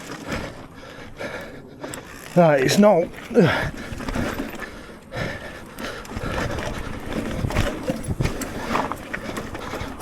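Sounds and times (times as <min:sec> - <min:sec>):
bike knocking and rattling: 0:00.0 - 0:10.0
tyre and wind noise: 0:00.0 - 0:10.0.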